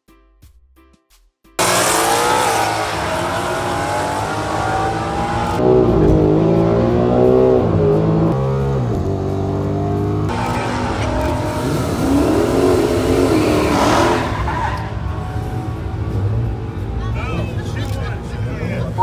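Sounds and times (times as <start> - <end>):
car engines at full throttle: 1.6 - 19.0.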